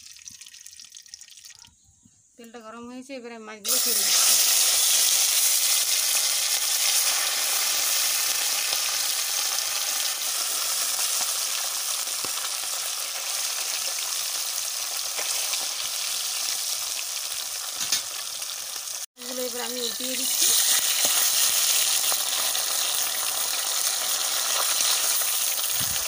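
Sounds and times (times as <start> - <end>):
fish sizzling in hot oil: 0.0 - 1.6, 3.7 - 26.0.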